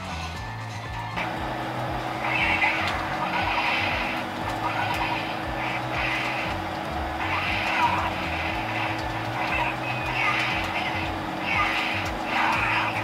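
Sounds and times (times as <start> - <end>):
video game music: 0.0 - 13.0.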